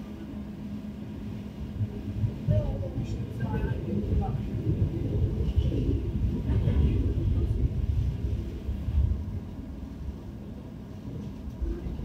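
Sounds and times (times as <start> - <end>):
diesel railcar rumbling: 0.0 - 12.0.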